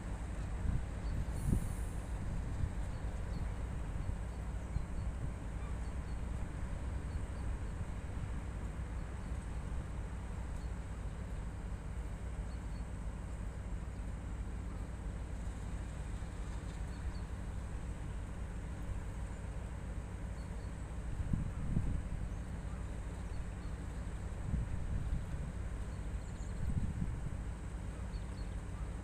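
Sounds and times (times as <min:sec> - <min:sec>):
locomotive engine idling: 0:00.0 - 0:29.0.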